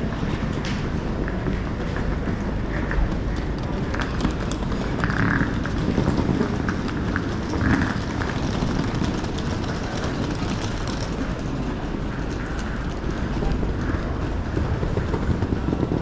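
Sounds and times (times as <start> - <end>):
background rumble: 0.0 - 16.0.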